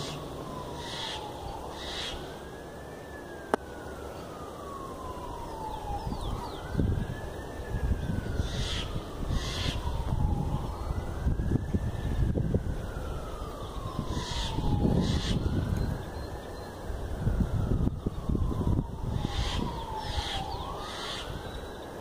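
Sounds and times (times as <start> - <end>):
emergency vehicle siren wailing: 0.0 - 22.0.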